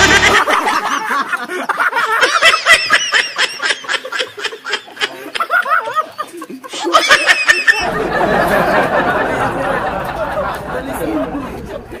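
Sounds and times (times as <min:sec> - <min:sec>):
men laughing together: 0:00.0 - 0:11.7.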